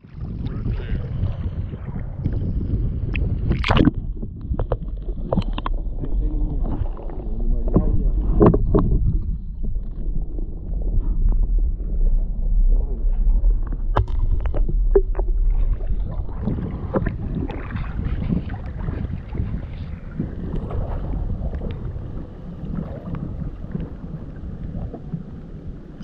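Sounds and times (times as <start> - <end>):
shallow water sloshing: 0.0 - 26.0
wind buffeting microphone: 0.0 - 26.0.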